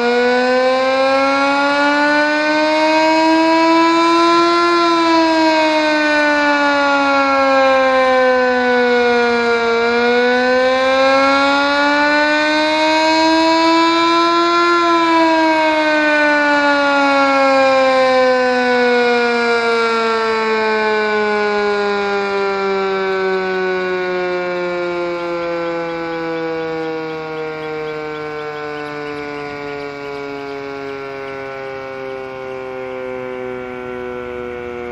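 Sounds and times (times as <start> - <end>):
warning siren wailing: 0.0 - 34.9.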